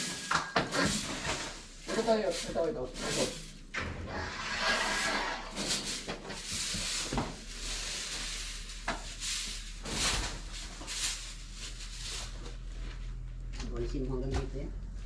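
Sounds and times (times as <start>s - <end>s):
broom sweeping concrete floor: 0.0s - 13.4s.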